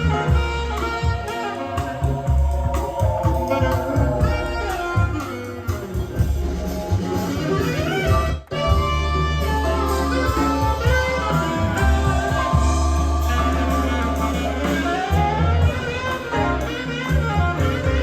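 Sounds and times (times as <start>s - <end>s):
guitar-led blues music: 0.0s - 18.0s
steady bass line: 0.0s - 18.0s.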